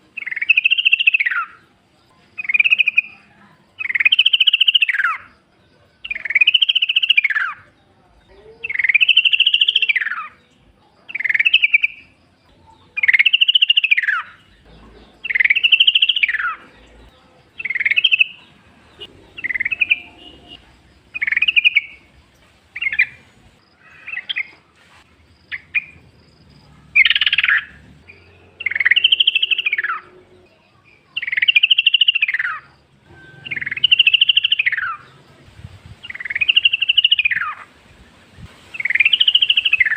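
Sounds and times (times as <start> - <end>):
bird singing: 0.0 - 24.6, 25.4 - 37.7, 38.8 - 39.9.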